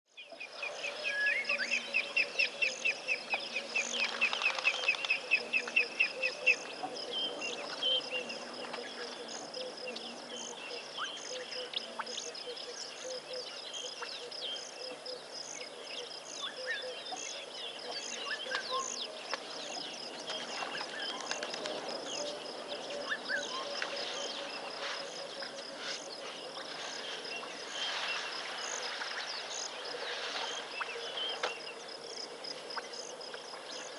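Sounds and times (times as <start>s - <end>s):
bird chirps: 0.2s - 31.8s
insects droning: 0.2s - 33.9s.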